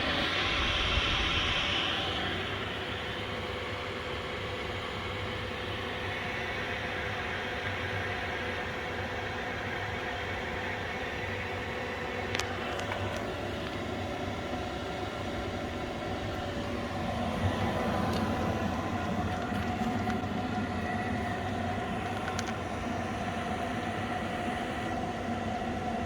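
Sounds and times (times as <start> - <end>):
mechanical drone with hum: 0.0 - 26.0.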